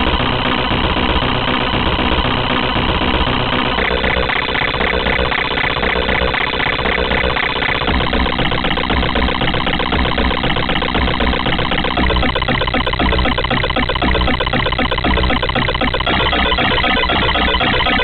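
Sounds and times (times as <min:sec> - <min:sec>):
buzzy computer-generated pattern: 0:00.0 - 0:18.0.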